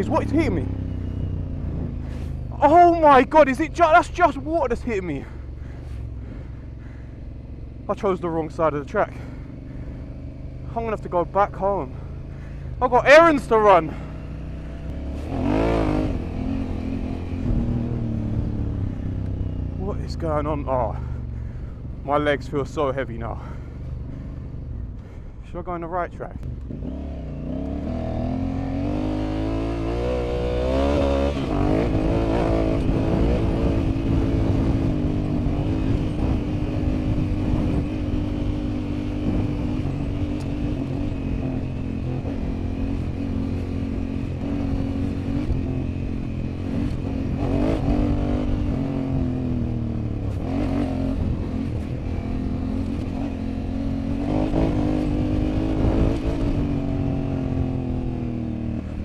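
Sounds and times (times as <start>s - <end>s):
motorcycle engine revving: 0.0s - 25.2s, 26.2s - 59.0s.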